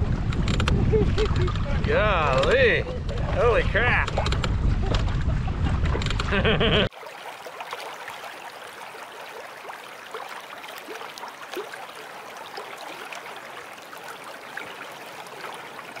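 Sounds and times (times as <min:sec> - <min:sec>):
water trickling and bubbling: 0:00.0 - 0:16.0.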